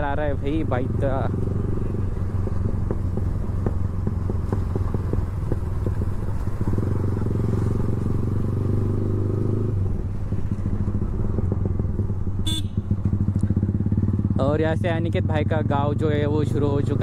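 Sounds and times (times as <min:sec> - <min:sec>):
motorcycle engine revving: 0:00.0 - 0:17.0
motorcycle exhaust popping: 0:00.0 - 0:17.0.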